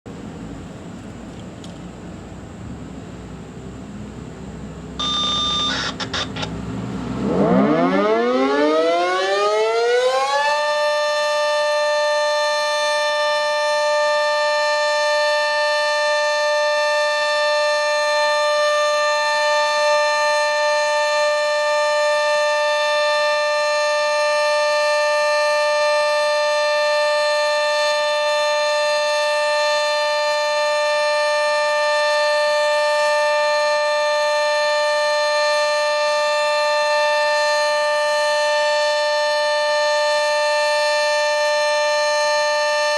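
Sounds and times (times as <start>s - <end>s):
two-tone warning siren: 5.0s - 42.9s.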